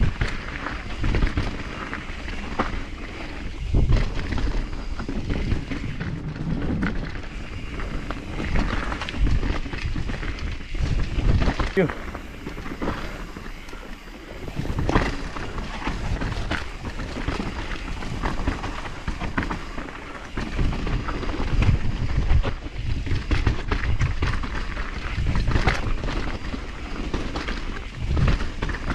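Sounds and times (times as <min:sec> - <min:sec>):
bike rattling and knocking: 0:00.0 - 0:28.9
bike tyre rumble: 0:00.0 - 0:28.9
wind buffeting microphone: 0:00.0 - 0:28.9.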